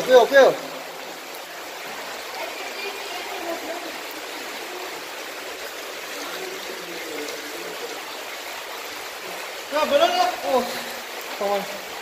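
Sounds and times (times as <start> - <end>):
stream of water trickling: 0.0 - 12.0.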